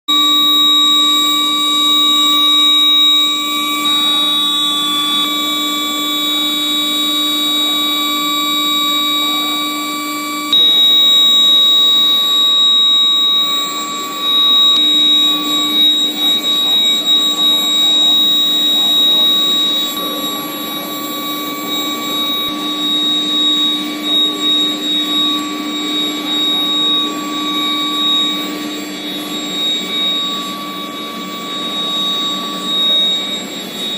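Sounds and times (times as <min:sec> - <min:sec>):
induction heater electrical whine: 0:00.1 - 0:33.9.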